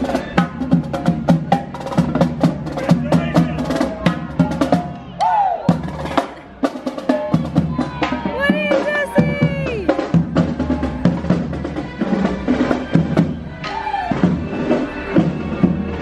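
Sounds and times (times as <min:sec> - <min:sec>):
marching drum line: 0:00.0 - 0:16.0.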